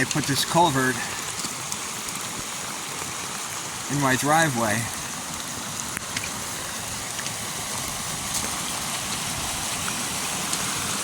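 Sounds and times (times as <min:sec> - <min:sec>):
rainwater rushing through culvert: 0:00.0 - 0:11.0.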